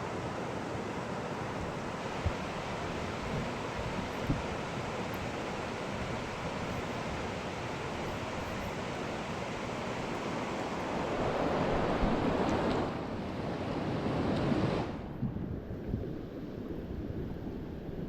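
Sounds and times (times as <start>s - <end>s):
fast-flowing river rushing: 0.0s - 15.2s.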